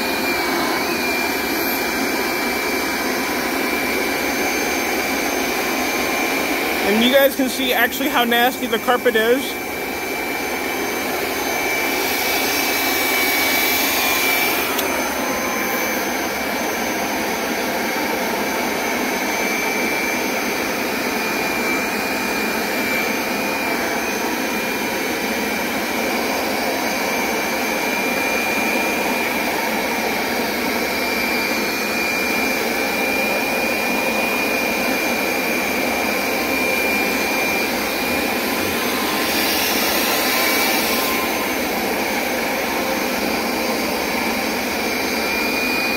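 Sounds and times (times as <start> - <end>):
carpet cleaner motor whine: 0.0 - 45.9.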